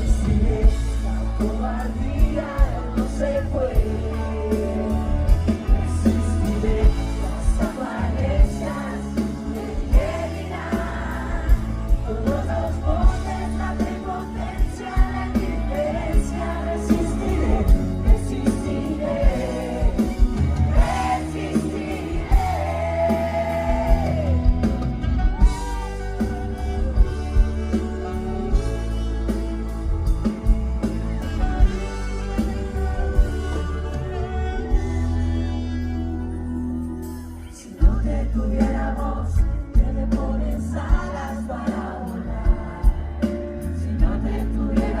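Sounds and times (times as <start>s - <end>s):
steady drum beat: 0.0s - 35.2s, 37.8s - 45.0s
live pop-rock band playing: 0.0s - 45.0s
vocals singing: 0.0s - 45.0s.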